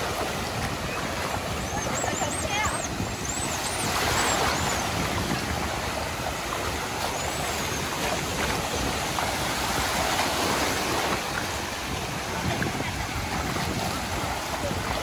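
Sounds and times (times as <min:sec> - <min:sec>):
sea waves breaking over shallows: 0:00.0 - 0:15.0.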